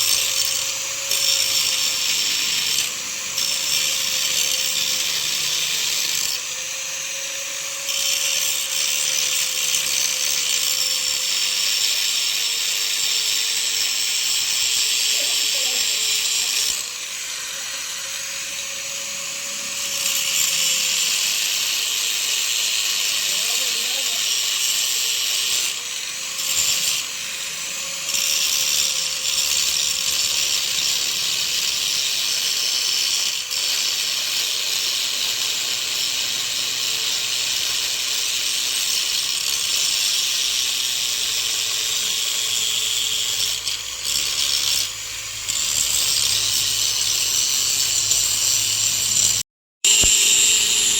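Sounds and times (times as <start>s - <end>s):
angle grinder cutting steel: 0.0s - 50.9s.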